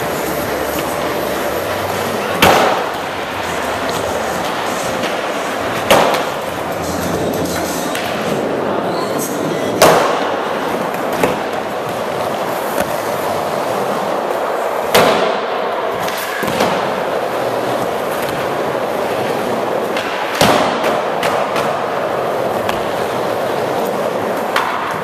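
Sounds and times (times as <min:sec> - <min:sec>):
skateboard clacking on ramp: 0:00.0 - 0:08.7, 0:09.3 - 0:25.0
skateboard wheels rolling on wood: 0:00.0 - 0:25.0.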